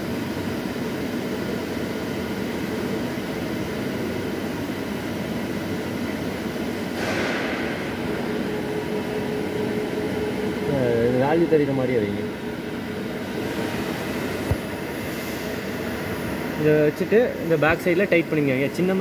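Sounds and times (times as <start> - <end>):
machinery hum and rumble: 0.0 - 19.0.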